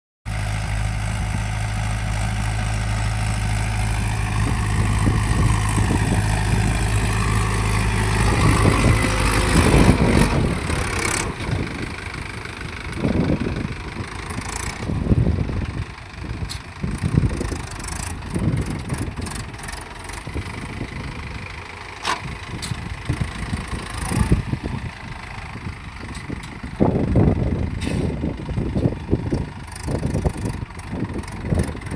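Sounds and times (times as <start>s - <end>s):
engine knocks and rumbles: 0.3s - 31.9s
tractor diesel engine droning: 0.3s - 31.9s.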